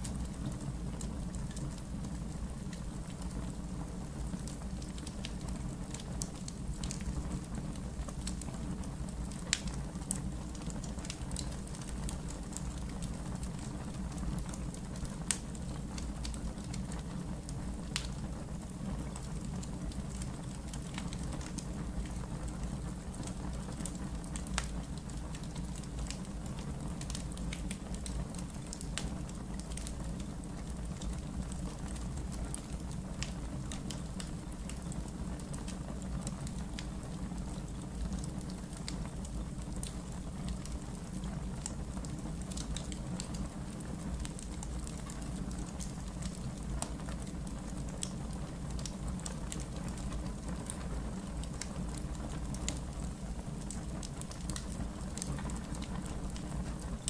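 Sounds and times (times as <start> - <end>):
logs crackling and popping: 0.0 - 57.0
fire flames rumbling: 0.1 - 57.0.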